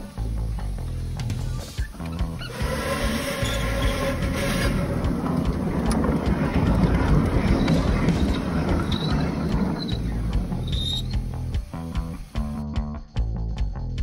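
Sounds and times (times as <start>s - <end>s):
steam locomotive exhaust: 0.0s - 12.7s.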